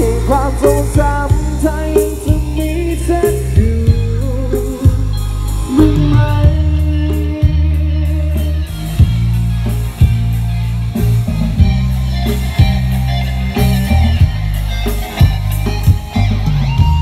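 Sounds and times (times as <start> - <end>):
electric guitar melody: 0.0 - 17.0
heavy sustained bass notes: 0.0 - 17.0.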